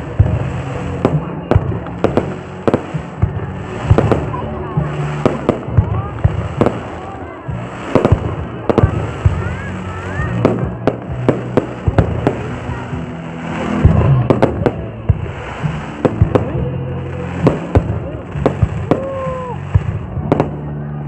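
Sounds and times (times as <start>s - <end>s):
continuous low rumble: 0.0s - 21.0s
fireworks bangs and crackles: 0.0s - 21.0s.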